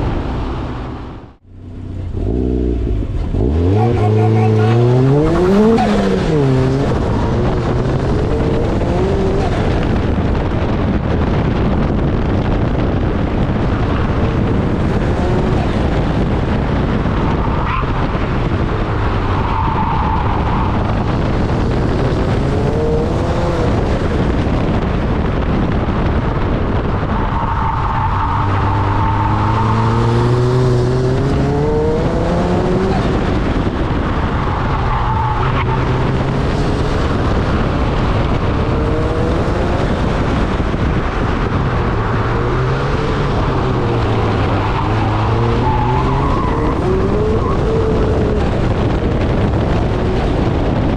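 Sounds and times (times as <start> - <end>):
car engine revving: 0.0 - 50.9
tyre and road noise: 0.0 - 50.9.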